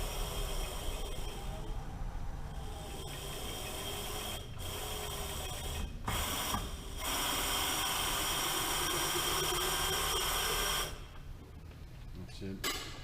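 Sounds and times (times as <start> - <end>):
milling machine whine: 0.0 - 11.1.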